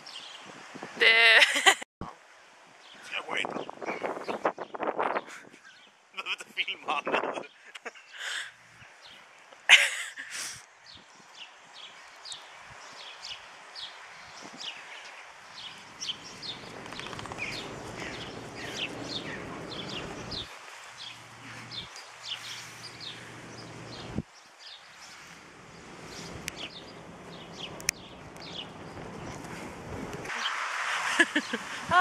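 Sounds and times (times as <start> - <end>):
steady rustling hiss: 1.6 - 32.0
small birds chirping: 2.8 - 30.6.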